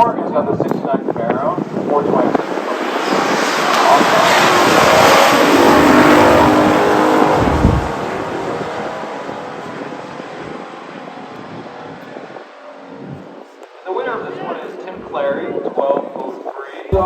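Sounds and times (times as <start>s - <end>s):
drag racing cars at full throttle: 0.0s - 17.0s.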